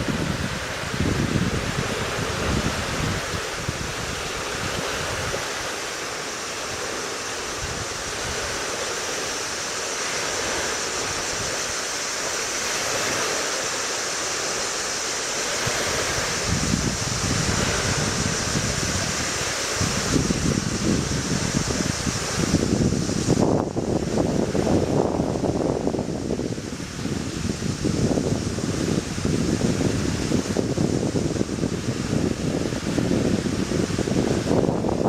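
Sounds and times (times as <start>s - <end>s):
wind buffeting microphone: 0.0s - 13.8s, 14.9s - 35.0s
rushing wind: 0.0s - 35.0s.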